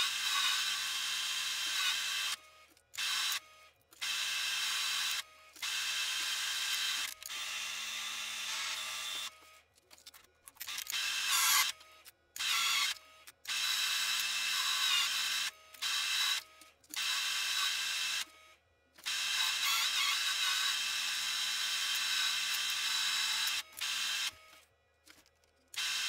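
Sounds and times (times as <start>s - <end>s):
electric motor whirring: 0.0s - 9.6s, 10.6s - 24.6s, 25.7s - 26.0s.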